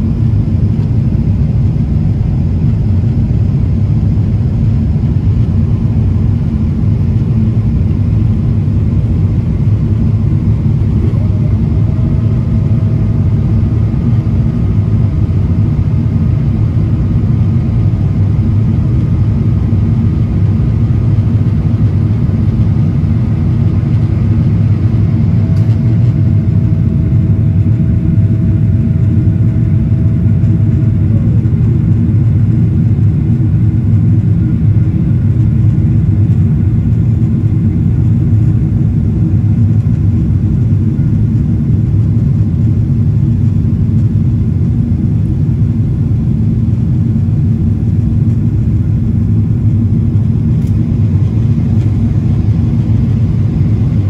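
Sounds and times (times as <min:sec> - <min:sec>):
faint whine: 0:00.0 - 0:54.0
jet engine rumble and airflow: 0:00.0 - 0:54.0.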